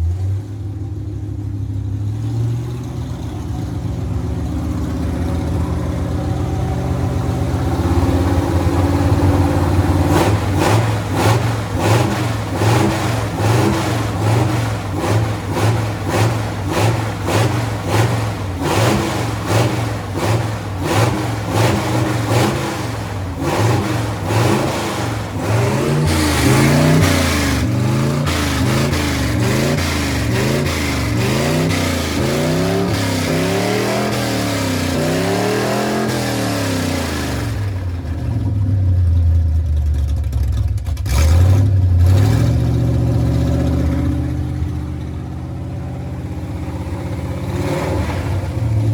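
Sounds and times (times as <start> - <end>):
pickup truck engine revving: 0.0 - 48.9.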